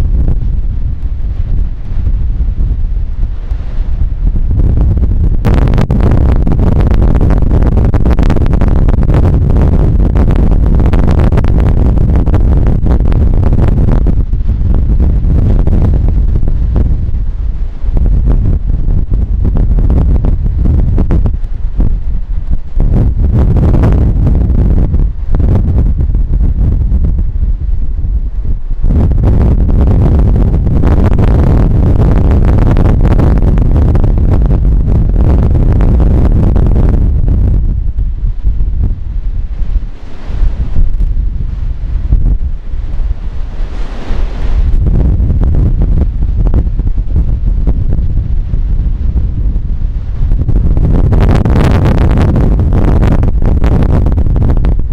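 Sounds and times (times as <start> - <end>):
heavy surf breaking: 0.0 - 54.9
wind buffeting microphone: 0.0 - 54.9.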